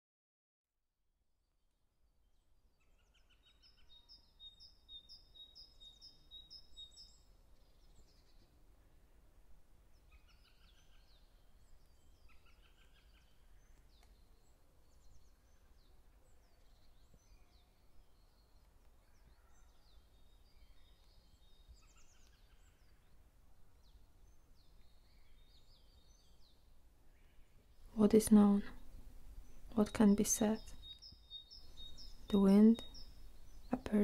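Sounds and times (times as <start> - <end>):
small birds singing faintly: 1.2 - 34.0.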